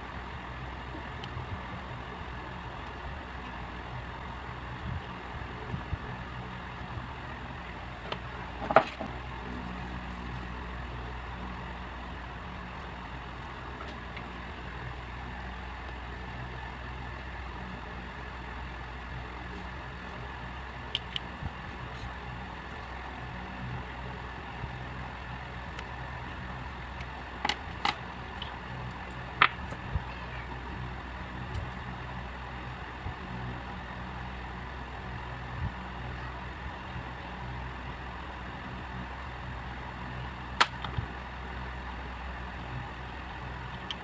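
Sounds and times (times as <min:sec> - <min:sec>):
faint steady tones: 0:00.0 - 0:44.0
low mechanical hum: 0:00.0 - 0:44.0.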